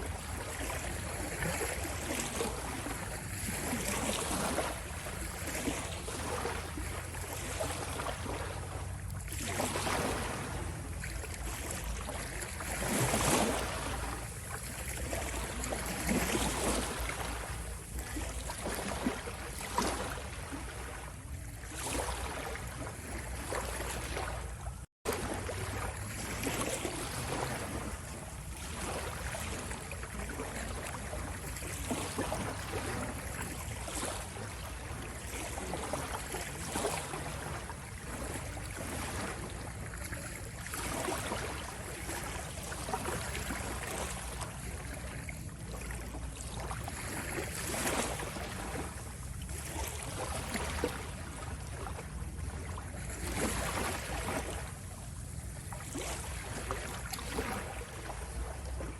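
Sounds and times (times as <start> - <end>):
ocean waves washing in: 0.0 - 58.9.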